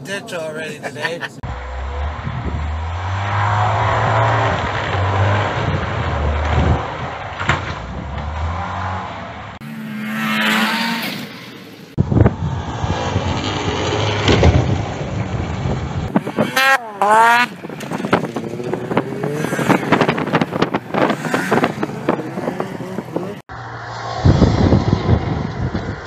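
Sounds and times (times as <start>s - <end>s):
snowmobile engines revving: 0.0s - 12.0s, 16.1s - 26.0s.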